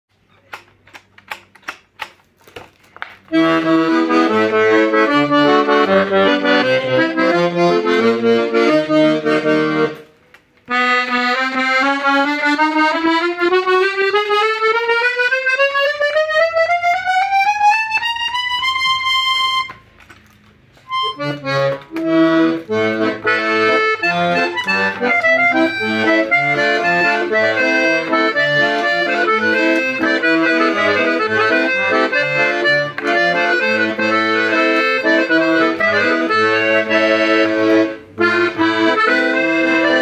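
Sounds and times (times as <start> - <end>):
accordion clicks: 0.4 - 2.2, 3.1 - 40.0
accordion rising run: 3.3 - 10.1, 10.7 - 19.9, 20.8 - 40.0
accordion playing chords: 3.3 - 40.0.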